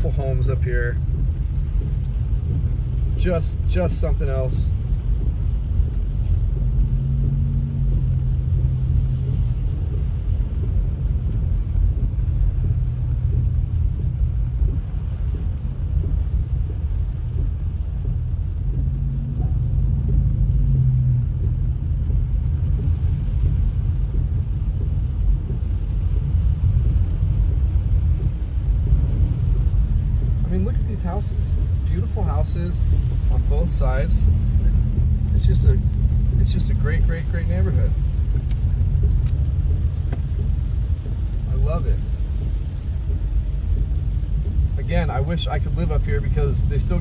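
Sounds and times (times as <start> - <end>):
car driving on wet pavement: 0.0 - 47.0.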